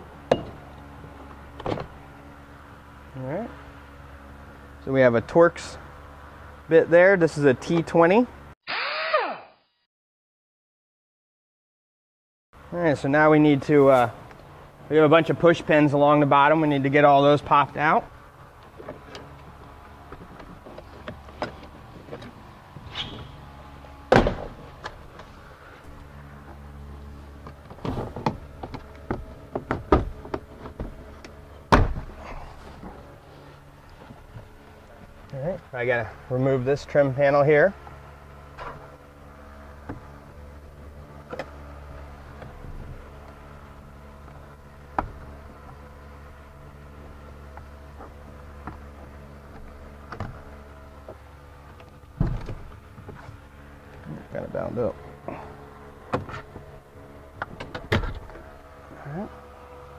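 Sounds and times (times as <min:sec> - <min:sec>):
steady low hum: 0:00.0 - 0:08.6, 0:12.6 - 0:59.9.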